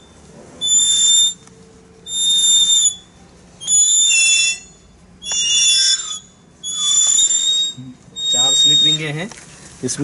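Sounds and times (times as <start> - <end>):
motor-generator squealing: 0.0 - 9.3.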